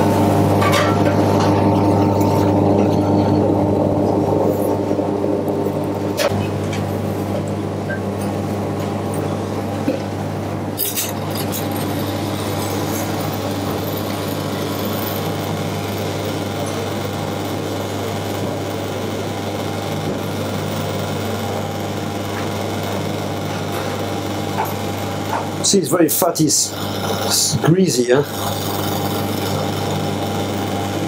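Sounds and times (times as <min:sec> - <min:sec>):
kitchen equipment humming: 0:00.0 - 0:31.0.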